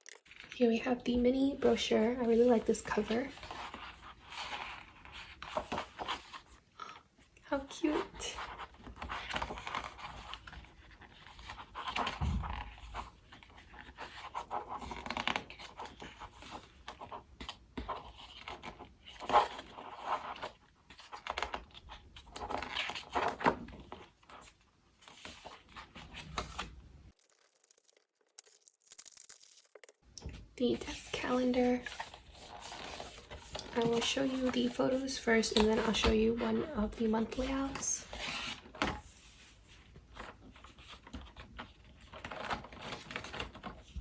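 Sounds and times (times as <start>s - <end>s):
paper pages rustling: 8.0s - 30.0s, 30.7s - 44.0s.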